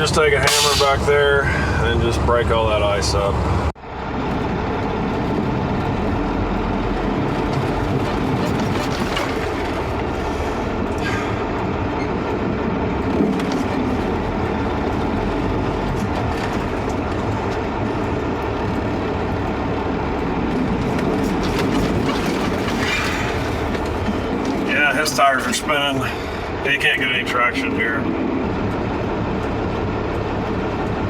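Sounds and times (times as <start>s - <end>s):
diesel truck engine under load: 0.0s - 31.0s
tires spinning on ice: 4.3s - 31.0s.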